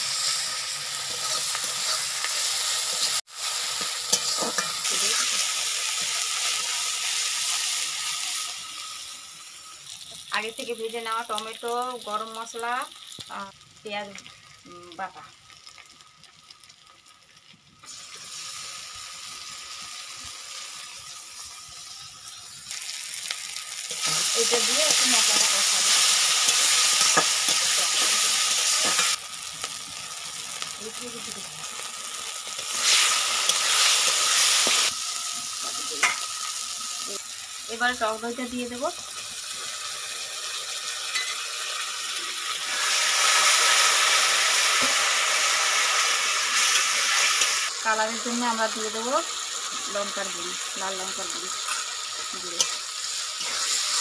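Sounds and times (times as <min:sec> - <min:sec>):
paste sizzling in hot oil: 0:00.0 - 0:54.0.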